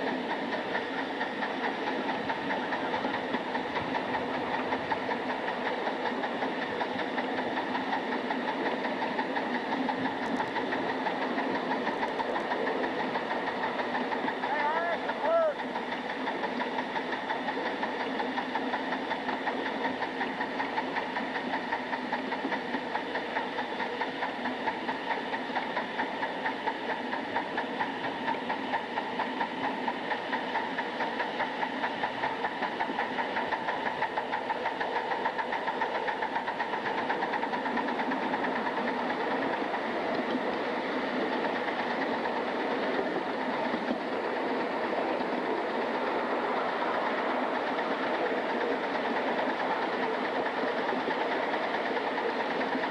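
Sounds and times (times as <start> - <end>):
steam locomotive exhaust beats: 0.0 - 52.9.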